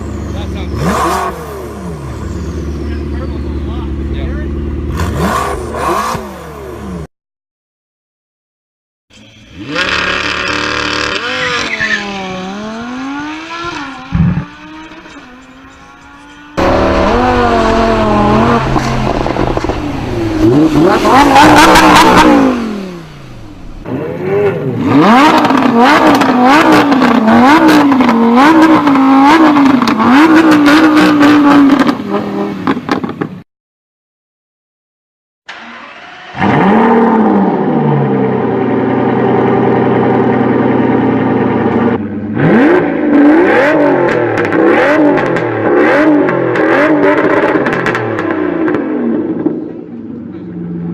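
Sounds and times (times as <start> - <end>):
car engine revving: 0.0 - 7.1, 9.2 - 33.3, 35.5 - 50.9.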